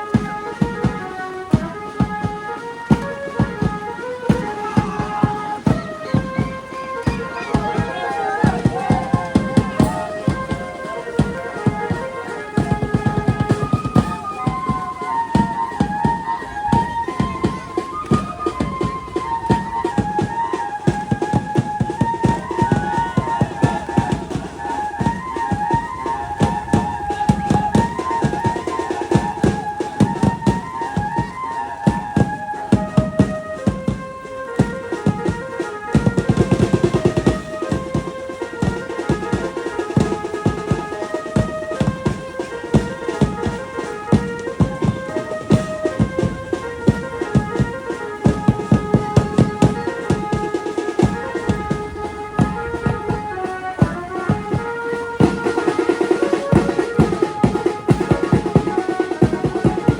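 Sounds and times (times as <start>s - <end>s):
melody of held notes: 0.0s - 59.9s
fast drum beat: 2.9s - 34.0s, 36.0s - 59.9s.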